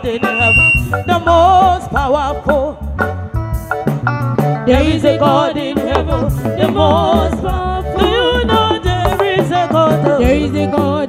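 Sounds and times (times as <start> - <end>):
women singing gospel song: 0.0 - 2.8, 4.7 - 11.0
live band with drums and bass: 0.0 - 11.0.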